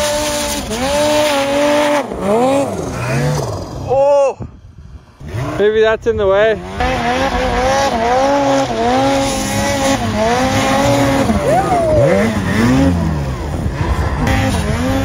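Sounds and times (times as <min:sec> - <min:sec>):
snowmobile engine revving: 0:00.0 - 0:04.3, 0:05.2 - 0:15.0.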